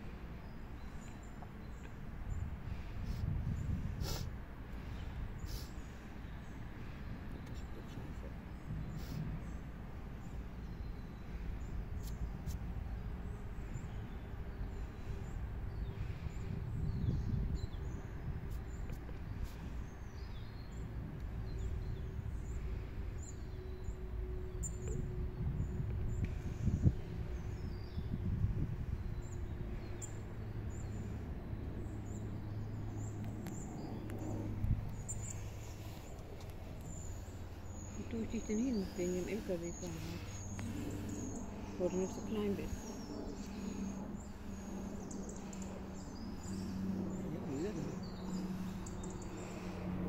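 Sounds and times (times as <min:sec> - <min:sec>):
small birds chirping: 0:00.0 - 0:50.0
steady low rumble: 0:00.0 - 0:50.0.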